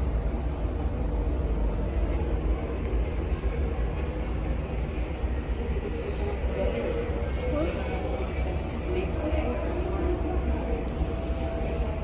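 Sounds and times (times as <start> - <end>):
ship noise: 0.0 - 12.0
wind: 0.0 - 12.0.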